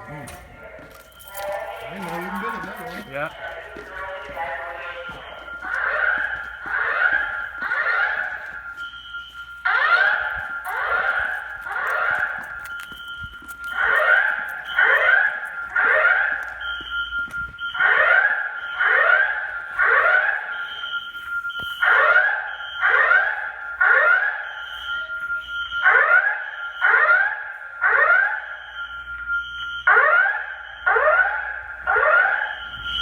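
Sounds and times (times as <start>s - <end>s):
steady high alarm tone: 0.0s - 33.0s
sweeping fire alarm siren: 0.0s - 33.0s.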